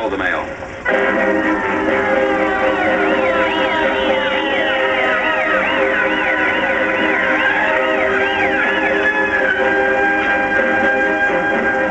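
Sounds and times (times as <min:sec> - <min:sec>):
music with wailing sweeping tone: 0:00.6 - 0:11.9.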